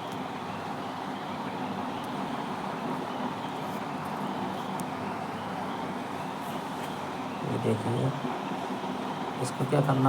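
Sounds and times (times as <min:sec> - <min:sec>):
machine hum and hiss: 0:00.0 - 0:10.0.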